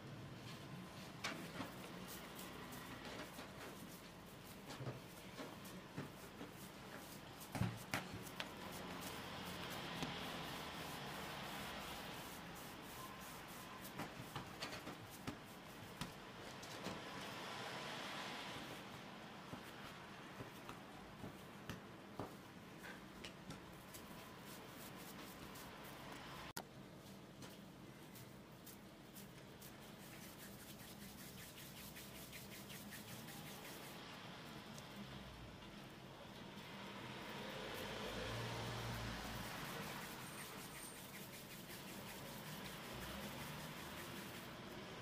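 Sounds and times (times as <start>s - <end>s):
hands rolling dough on wood: 0.4s - 16.2s, 18.8s - 34.8s, 37.7s - 45.0s.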